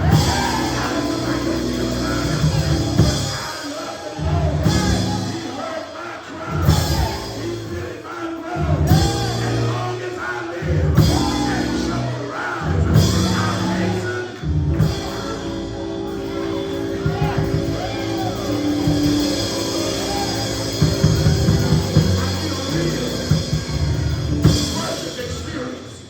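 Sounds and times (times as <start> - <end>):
heavy bass line: 0.0 - 3.5, 4.2 - 5.6, 6.5 - 7.9, 8.6 - 25.5
people singing: 0.0 - 26.0.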